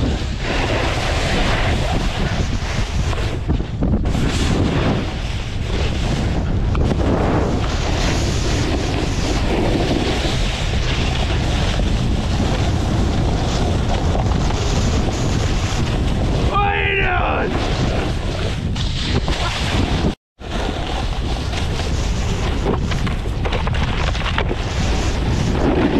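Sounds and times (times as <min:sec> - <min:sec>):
snowboard scraping over slushy snow: 0:00.0 - 0:25.9
wind rushing over microphone: 0:00.0 - 0:25.9.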